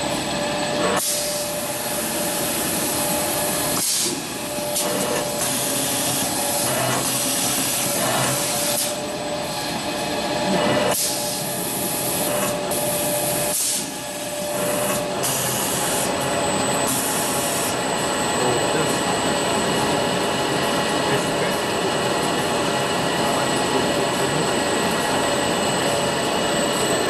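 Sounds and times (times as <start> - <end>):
cutting machine running with whine: 0.0 - 27.0.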